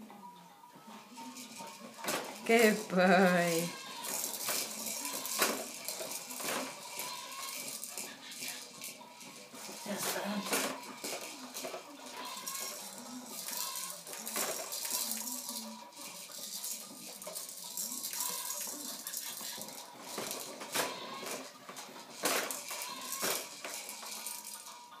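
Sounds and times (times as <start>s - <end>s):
plastic toys rattling: 0.8s - 25.0s.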